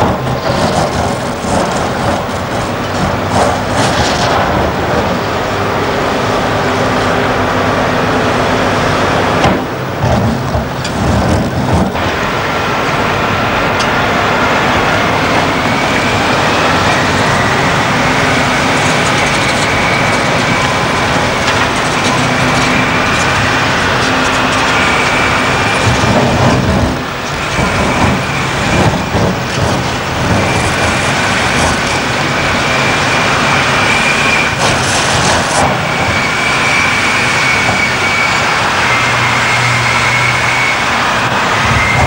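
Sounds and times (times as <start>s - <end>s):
excavator digging rock: 0.0s - 5.7s, 8.7s - 40.6s
dump truck diesel engines: 0.0s - 42.0s.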